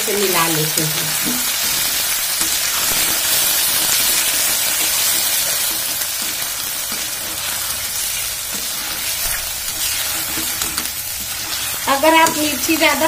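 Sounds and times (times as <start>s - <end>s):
potatoes sizzling in oil: 0.0s - 13.0s
metal spatula scraping pan: 1.1s - 13.0s.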